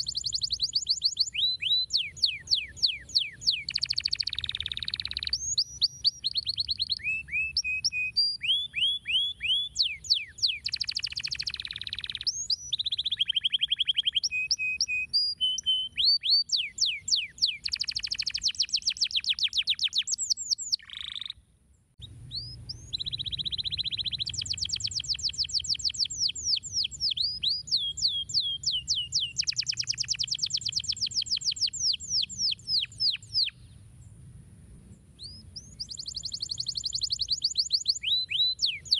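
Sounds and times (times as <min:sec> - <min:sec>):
canary singing: 0:00.0 - 0:21.4, 0:22.0 - 0:33.6, 0:35.2 - 0:38.9.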